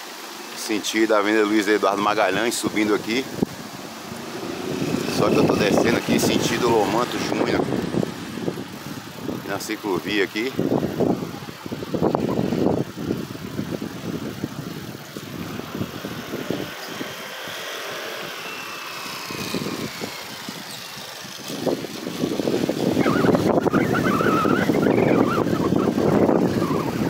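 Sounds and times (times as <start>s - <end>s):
road traffic noise: 0.0s - 27.0s
wind buffeting microphone: 2.4s - 27.0s.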